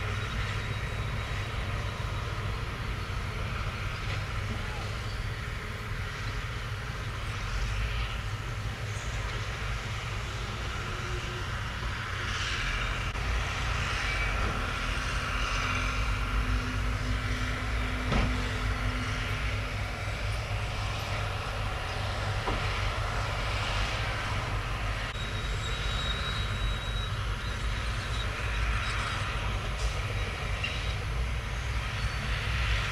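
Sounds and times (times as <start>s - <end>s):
heavy diesel engine rumble: 0.0s - 32.9s.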